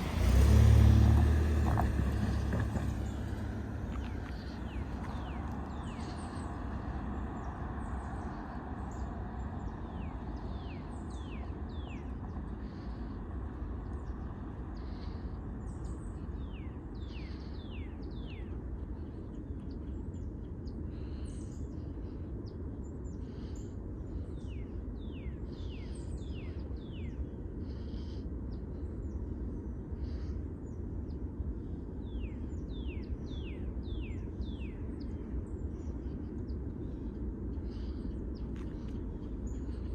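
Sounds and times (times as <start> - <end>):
songbird chirping: 0.0 - 39.9
low rumble: 0.8 - 39.9.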